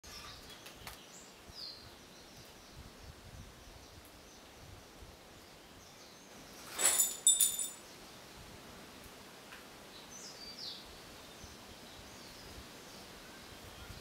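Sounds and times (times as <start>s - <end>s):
low steady hiss: 0.1s - 14.0s.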